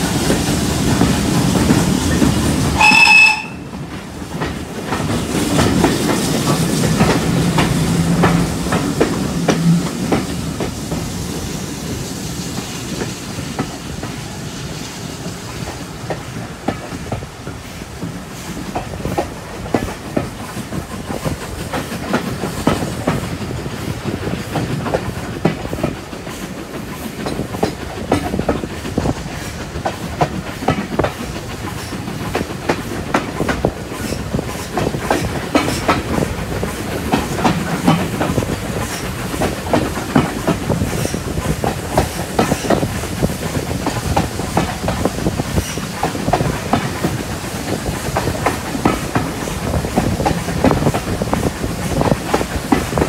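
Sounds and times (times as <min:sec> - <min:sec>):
train coach rumble: 0:00.0 - 0:53.0.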